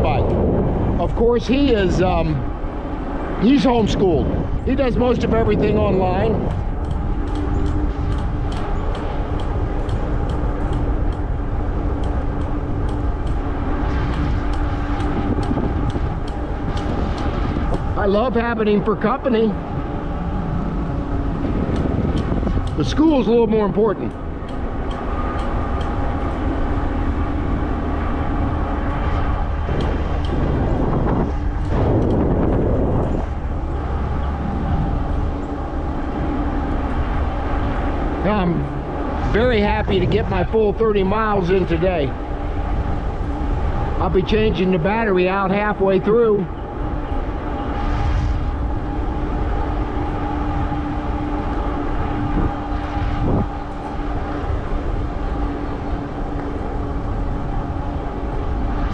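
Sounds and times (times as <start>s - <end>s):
e-bike rolling hum: 0.0s - 58.9s
rushing noise: 0.0s - 58.9s
steady motor whine: 0.0s - 58.9s
wind rumbling on microphone: 0.0s - 58.9s.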